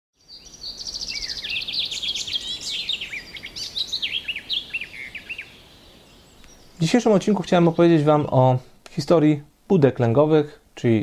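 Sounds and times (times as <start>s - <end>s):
songbirds chirping and trilling: 0.2s - 11.0s.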